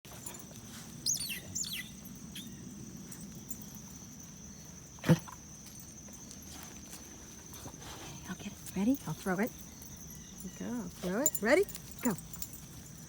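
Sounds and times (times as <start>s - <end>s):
high insect drone: 0.8s - 13.0s.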